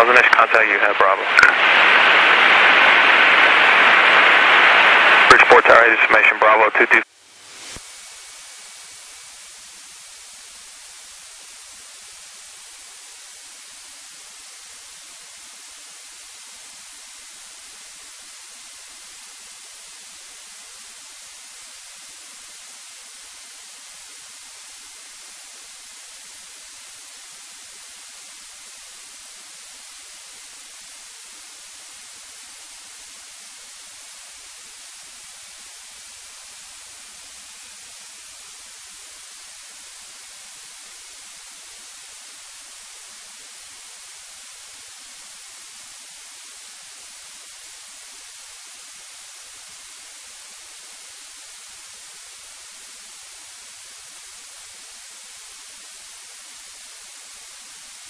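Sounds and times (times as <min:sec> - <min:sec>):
steady radio hiss: 0:00.0 - 0:58.0.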